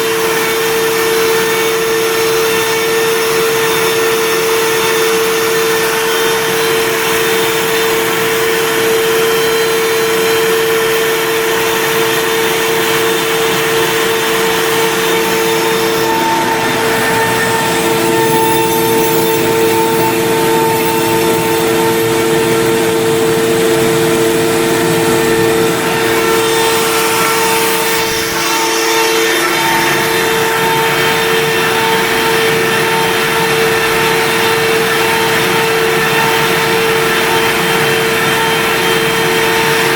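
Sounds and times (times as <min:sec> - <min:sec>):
router bit cutting wood: 0:00.0 - 0:39.9
router spindle motor whining: 0:00.0 - 0:39.9.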